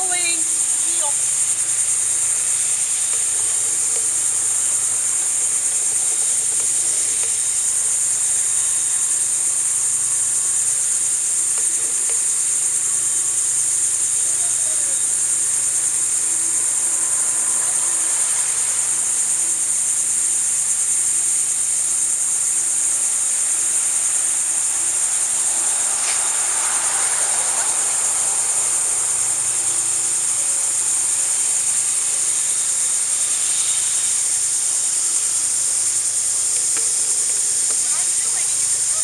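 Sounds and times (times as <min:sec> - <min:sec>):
insect chorus droning: 0:00.0 - 0:39.0.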